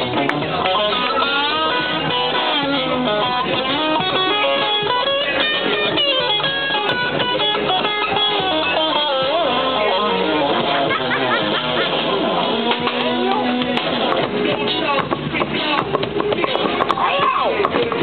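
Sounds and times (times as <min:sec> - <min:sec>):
electric guitar bent notes: 0:00.0 - 0:18.0
live rock band: 0:00.0 - 0:18.0.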